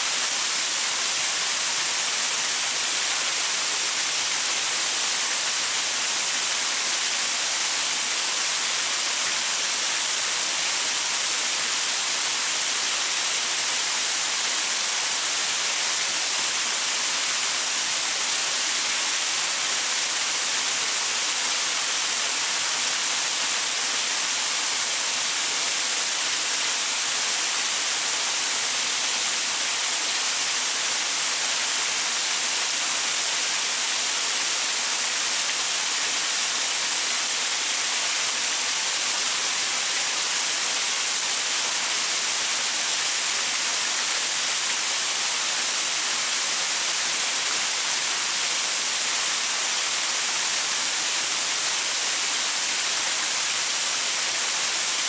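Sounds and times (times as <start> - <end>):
waterfall splashing onto rocks: 0.0 - 55.0.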